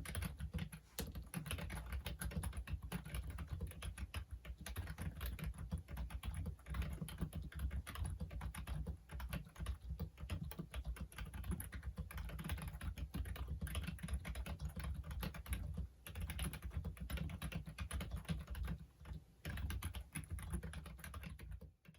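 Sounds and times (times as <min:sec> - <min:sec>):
fast typing on keyboard: 0:00.0 - 0:21.9.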